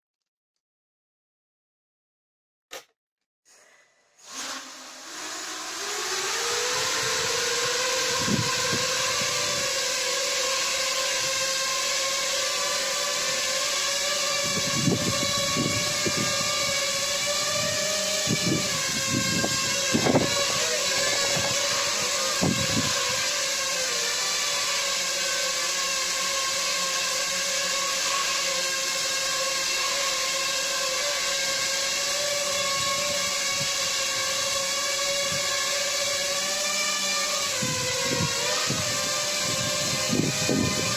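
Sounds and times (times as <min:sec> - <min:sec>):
quadcopter motors buzzing: 0:04.2 - 0:40.9.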